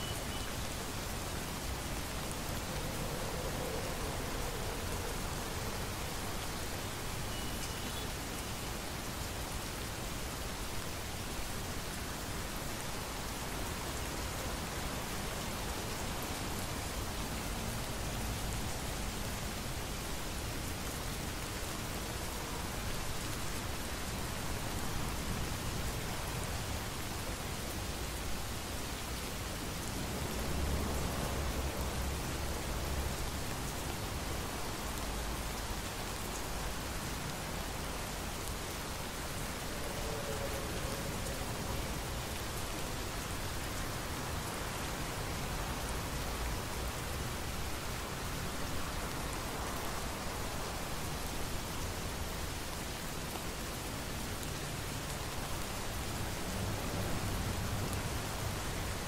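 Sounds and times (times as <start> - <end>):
heavy rain on hard surfaces: 0.0 - 59.0.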